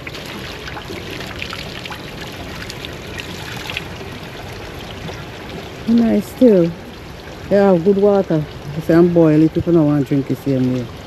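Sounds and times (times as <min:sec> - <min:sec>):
small water splashes: 0:00.0 - 0:11.0
spring water trickling: 0:00.0 - 0:11.0.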